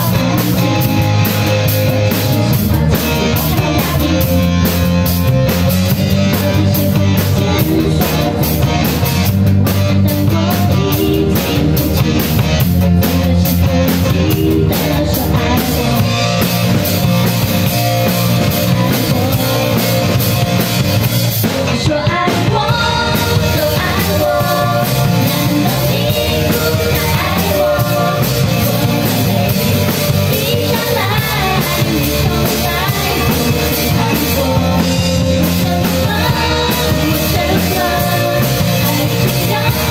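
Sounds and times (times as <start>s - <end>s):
person singing: 0.0s - 16.8s, 18.0s - 20.4s, 21.7s - 39.9s
rock band playing: 0.0s - 39.9s.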